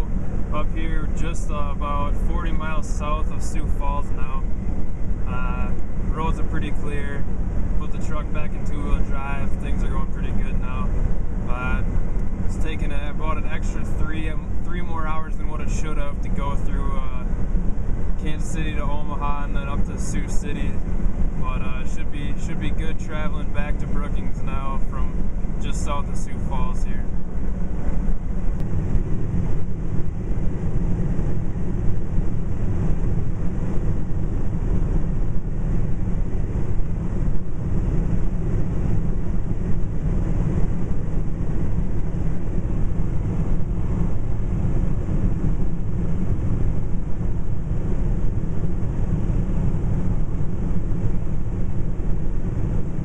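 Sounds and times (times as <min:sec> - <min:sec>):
road tyre and engine rumble in cab: 0:00.0 - 0:53.0.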